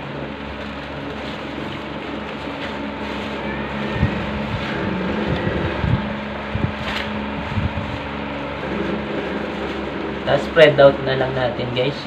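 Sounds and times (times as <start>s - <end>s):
paper bouquet rustling: 0.0s - 12.0s
steady mechanical hum: 0.0s - 12.0s.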